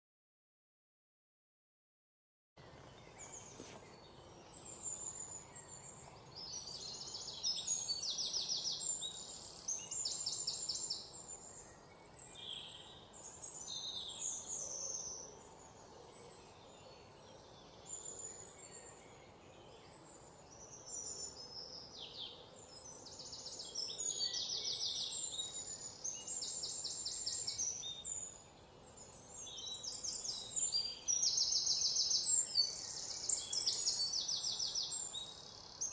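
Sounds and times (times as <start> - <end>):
faint steady hiss: 2.6 - 35.9
small birds chirping and trilling: 2.6 - 35.9.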